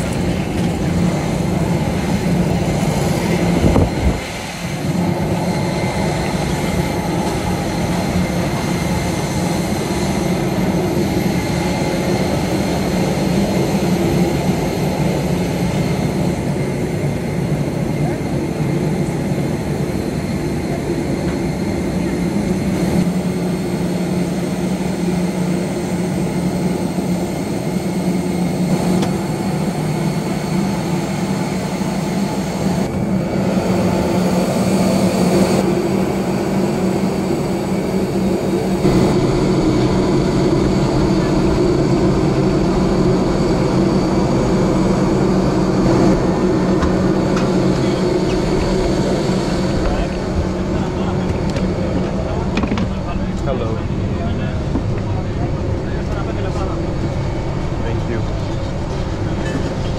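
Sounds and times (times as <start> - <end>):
mechanical drone with low hum: 0.0 - 59.9.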